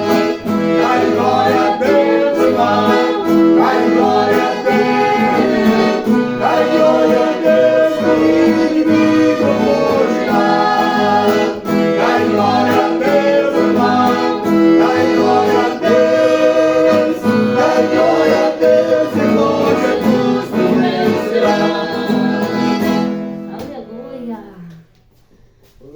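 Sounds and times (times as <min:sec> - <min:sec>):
person singing: 0:00.0 - 0:23.1
accordion playing a hymn: 0:00.0 - 0:23.7
guitar accompaniment: 0:00.0 - 0:24.4.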